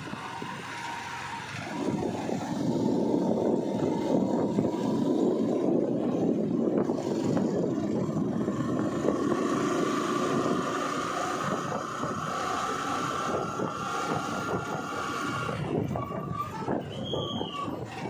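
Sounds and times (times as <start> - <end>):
vehicle rumble on road: 0.0 - 18.0
wind buffeting microphone: 0.0 - 18.0.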